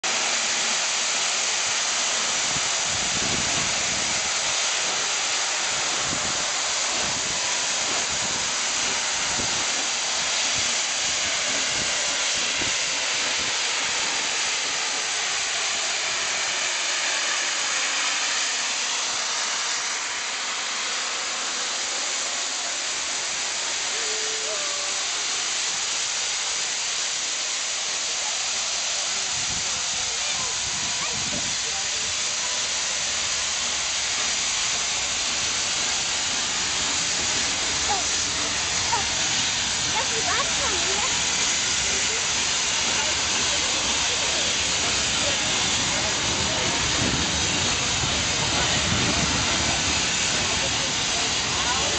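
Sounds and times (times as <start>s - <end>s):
steam hissing: 0.0s - 51.9s.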